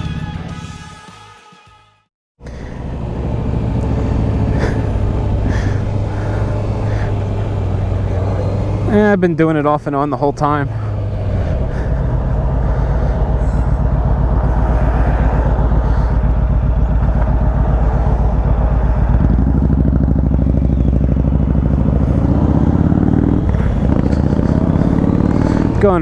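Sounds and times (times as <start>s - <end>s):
motorcycle engine accelerating: 2.4s - 26.0s.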